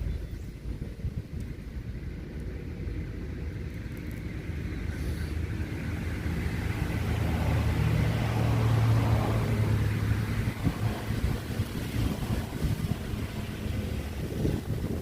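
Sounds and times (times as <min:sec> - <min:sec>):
vehicle engine approaching: 0:01.6 - 0:15.0.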